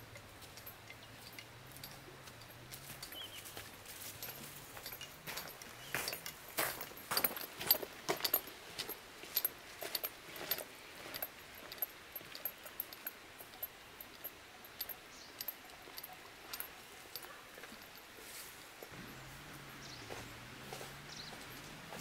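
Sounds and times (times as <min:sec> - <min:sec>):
footsteps on dirt path: 0:00.0 - 0:13.1, 0:15.4 - 0:22.0.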